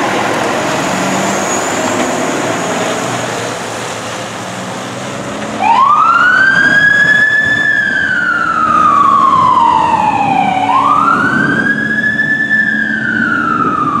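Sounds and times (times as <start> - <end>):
fire engine siren wailing: 0.0 - 14.0
truck engine running: 0.0 - 14.0.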